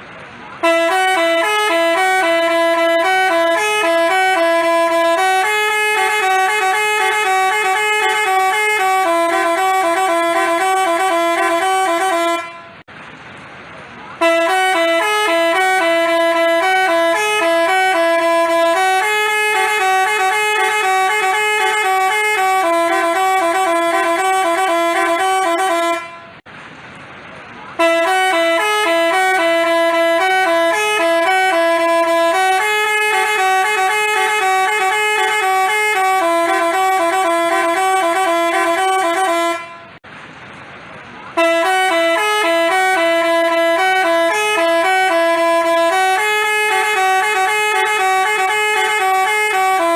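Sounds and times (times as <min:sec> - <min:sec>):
multi-tone bus horn melody: 0:00.0 - 0:12.9, 0:14.1 - 0:26.5, 0:27.7 - 0:40.0, 0:41.3 - 0:49.9.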